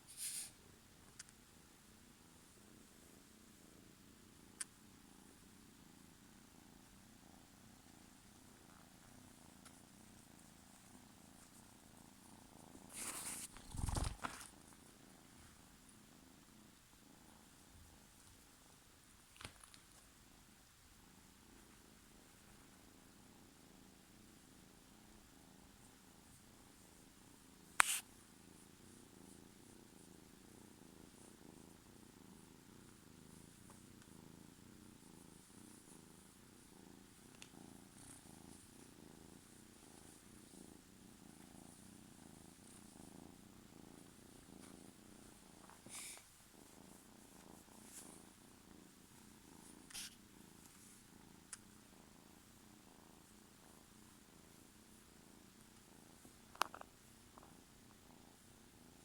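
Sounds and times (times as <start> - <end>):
kitten purring: 0.0 - 59.0.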